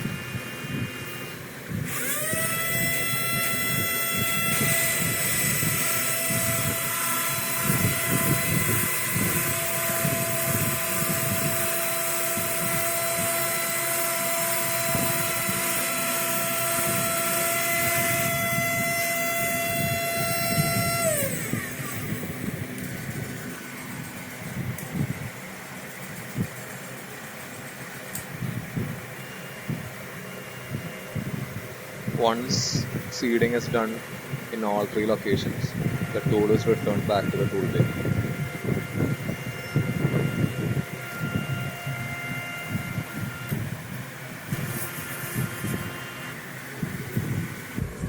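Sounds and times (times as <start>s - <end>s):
vacuum pump motor whining: 0.0s - 48.0s.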